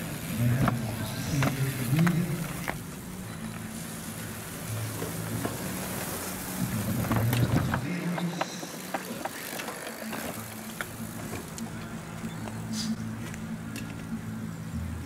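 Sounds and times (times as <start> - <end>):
bicycles going by: 0.0 - 15.0.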